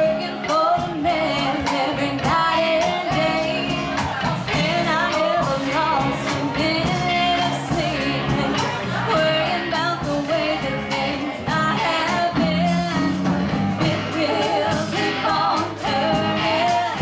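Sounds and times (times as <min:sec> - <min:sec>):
live band playing: 0:00.0 - 0:17.0
person singing: 0:00.0 - 0:17.0
steady drum beat: 0:00.0 - 0:17.0.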